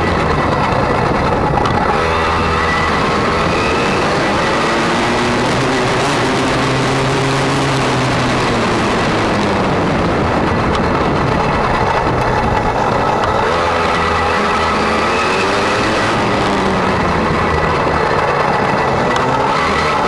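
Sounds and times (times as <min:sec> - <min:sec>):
constant rushing noise: 0:00.0 - 0:20.0
motocross bike engine revving: 0:00.0 - 0:20.0.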